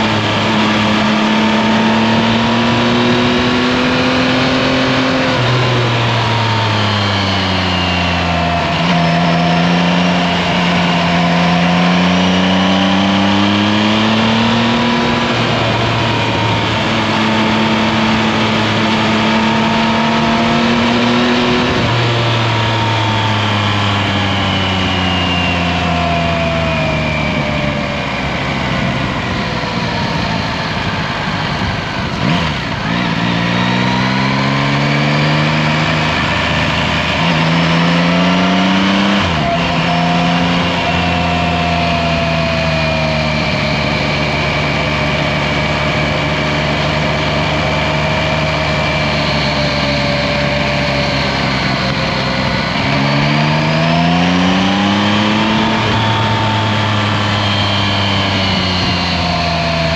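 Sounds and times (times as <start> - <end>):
motorcycle engine revving through gears: 0.0 - 59.9
wind and tyre noise: 0.0 - 59.9.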